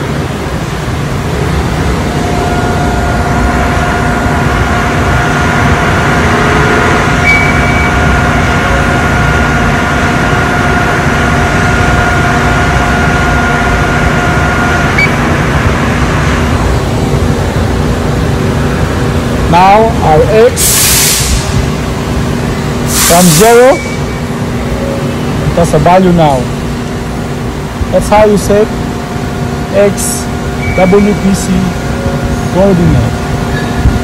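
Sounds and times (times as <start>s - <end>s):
two-note whine: 0.0s - 20.5s, 23.4s - 27.6s, 28.3s - 34.0s
machining center whirring: 0.0s - 34.0s.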